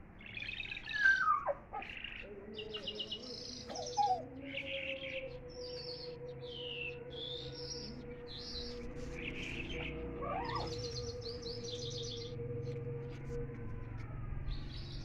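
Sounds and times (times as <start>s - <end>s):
songbirds chirping and twittering: 0.0s - 15.0s
bird trill of high notes: 0.3s - 12.4s
steady low hum: 1.5s - 15.0s.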